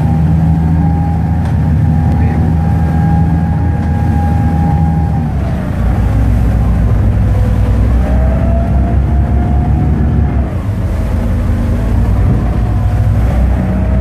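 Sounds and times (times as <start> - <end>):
boat engines low drone: 0.0 - 14.0
thin wavering whine: 0.0 - 14.0.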